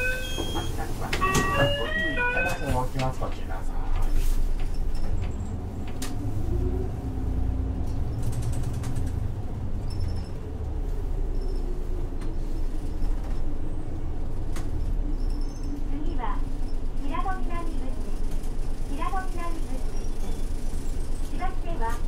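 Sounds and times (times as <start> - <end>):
bus diesel engine pulling away: 0.0 - 22.0.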